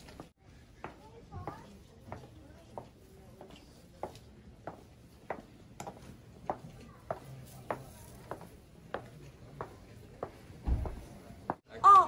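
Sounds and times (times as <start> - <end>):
footsteps on stone paving: 0.0 - 11.6.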